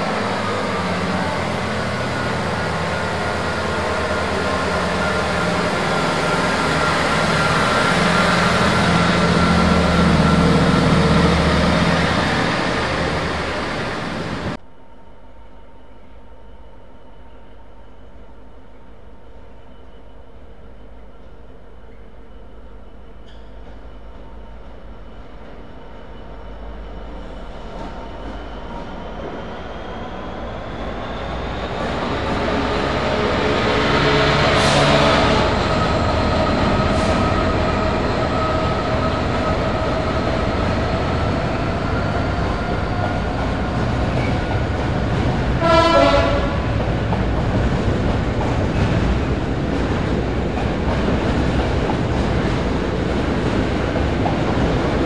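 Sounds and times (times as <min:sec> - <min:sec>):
diesel locomotive engine passing: 0:00.0 - 0:14.6, 0:22.2 - 0:55.0.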